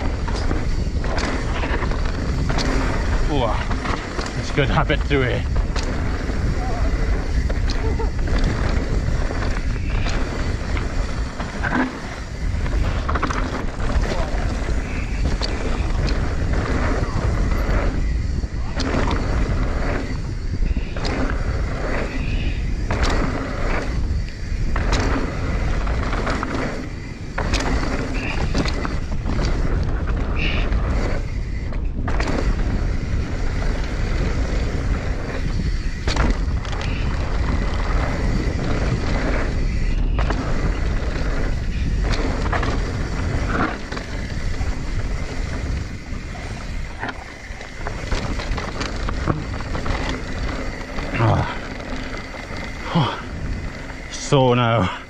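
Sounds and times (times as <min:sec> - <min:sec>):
bike rattling over bumps: 0:00.0 - 0:55.0
wind rumbling on microphone: 0:00.0 - 0:55.0.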